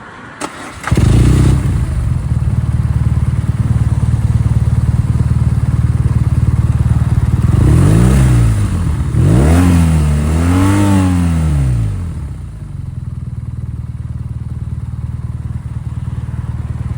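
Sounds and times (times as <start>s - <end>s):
motorcycle engine idling and revving: 0.4s - 16.9s.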